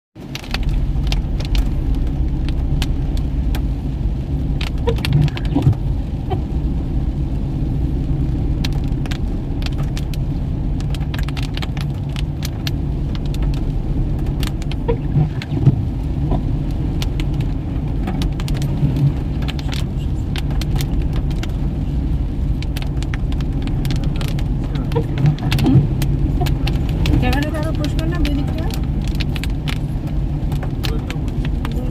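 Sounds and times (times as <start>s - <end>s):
engine and road rumble: 0.2s - 31.9s
rain striking vehicle: 0.2s - 31.9s.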